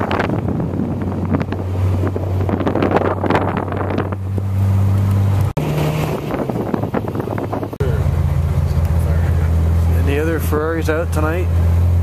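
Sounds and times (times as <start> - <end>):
car engine drone: 0.0 - 12.0
wind buffeting microphone: 0.0 - 12.0.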